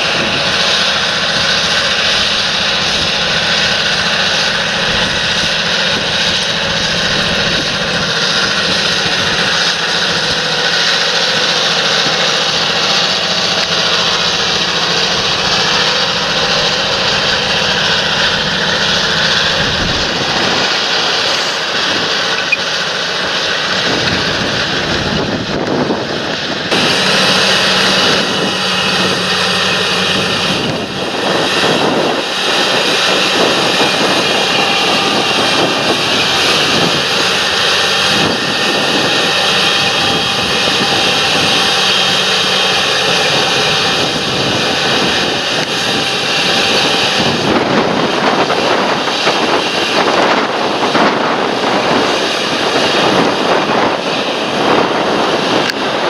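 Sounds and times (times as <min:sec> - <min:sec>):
high whine: 0:00.0 - 0:56.0
tractor diesel engine running: 0:00.0 - 0:56.0.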